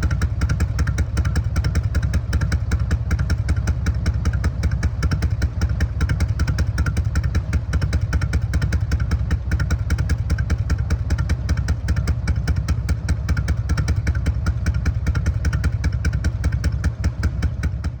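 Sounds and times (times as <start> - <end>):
motorcycle engine pulsing: 0.0 - 18.0.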